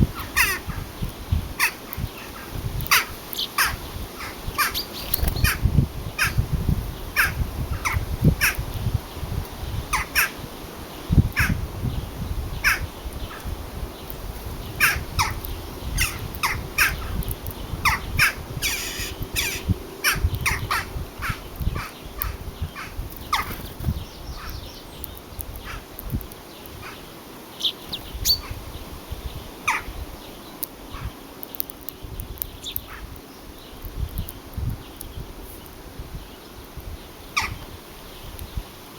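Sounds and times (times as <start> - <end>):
birds calling: 0.0 - 38.7.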